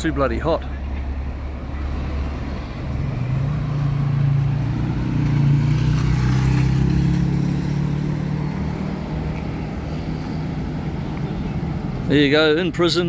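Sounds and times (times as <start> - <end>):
vehicle engine running close by: 0.0 - 12.3
low traffic rumble: 0.0 - 13.0.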